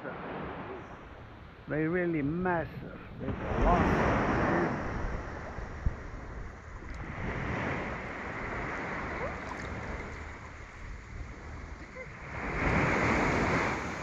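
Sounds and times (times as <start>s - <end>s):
waves and wind on shore: 0.0s - 14.0s.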